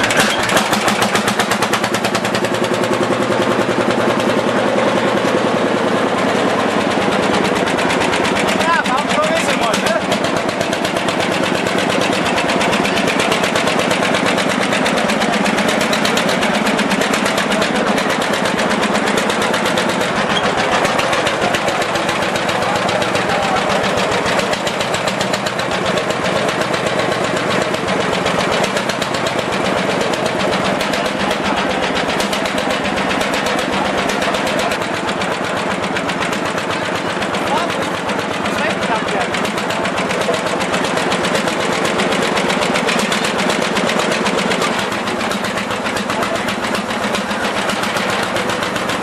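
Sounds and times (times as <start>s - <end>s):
old tractor engine knocking: 0.0s - 49.0s.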